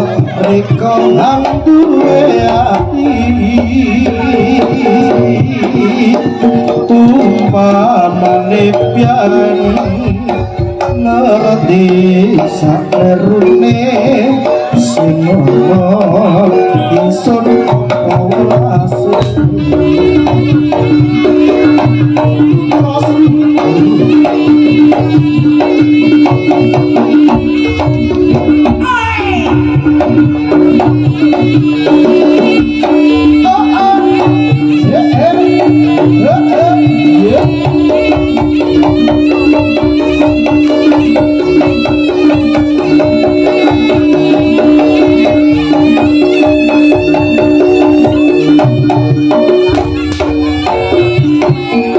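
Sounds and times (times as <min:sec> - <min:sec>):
hand drums beating busy rhythm: 0:00.0 - 0:51.9.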